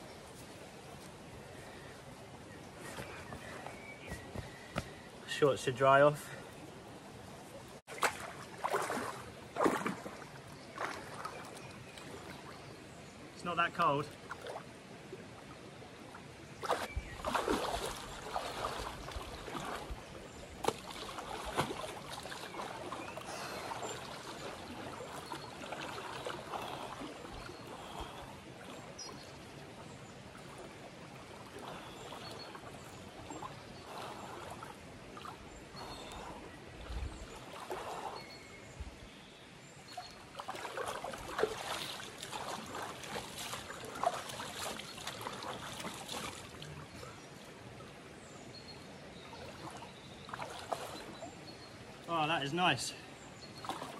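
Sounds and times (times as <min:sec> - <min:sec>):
stream flowing: 0:00.0 - 0:53.9
water sloshing and splashing: 0:06.2 - 0:13.2, 0:13.8 - 0:39.0, 0:39.6 - 0:52.2, 0:52.8 - 0:53.9.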